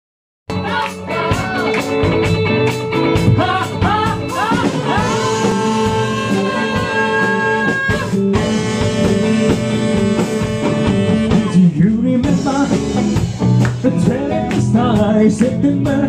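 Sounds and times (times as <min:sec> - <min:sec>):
person singing: 0:00.5 - 0:02.2, 0:03.1 - 0:13.0, 0:13.7 - 0:16.0
drum kit: 0:00.5 - 0:16.0
guitar: 0:00.5 - 0:16.0.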